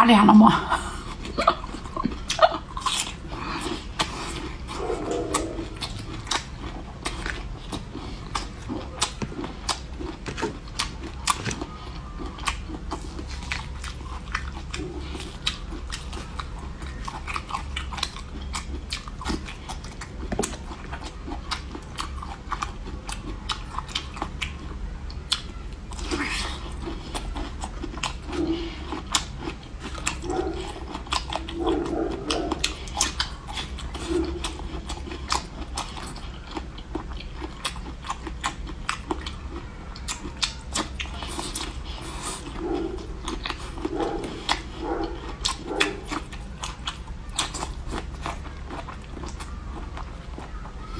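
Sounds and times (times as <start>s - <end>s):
biting and chewing food: 0.2s - 50.9s.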